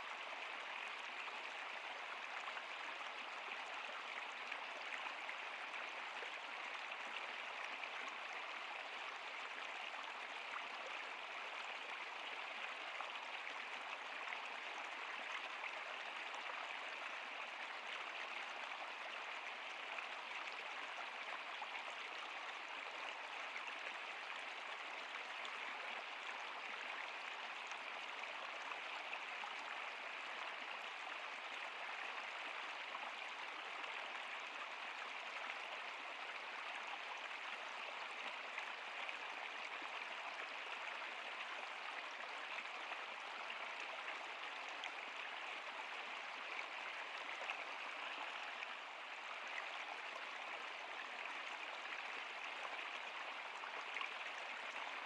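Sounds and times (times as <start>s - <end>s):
river water rushing and babbling: 0.0s - 55.0s.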